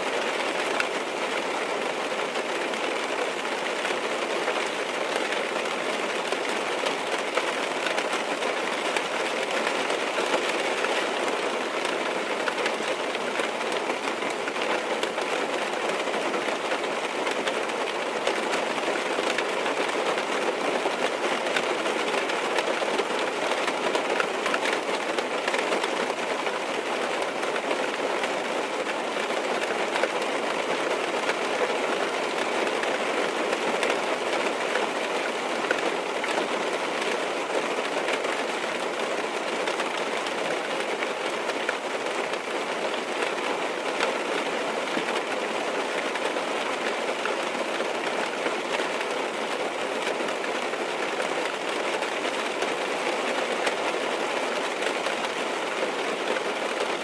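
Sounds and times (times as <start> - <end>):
rain pattering on car roof: 0.0 - 57.0.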